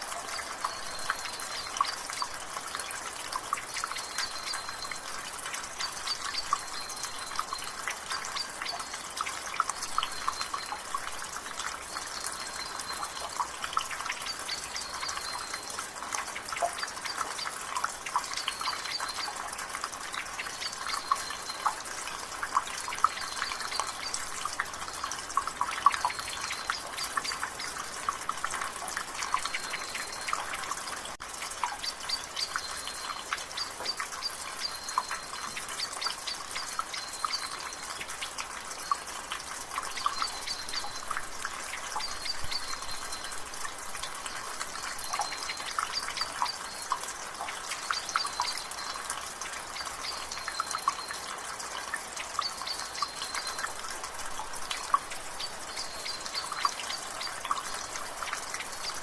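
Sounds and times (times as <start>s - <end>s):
rain water dripping from gutter: 0.0s - 59.0s.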